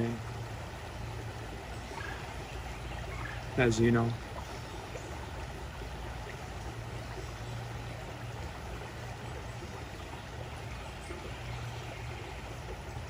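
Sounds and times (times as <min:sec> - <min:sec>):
creek running over stones: 0:00.0 - 0:13.0.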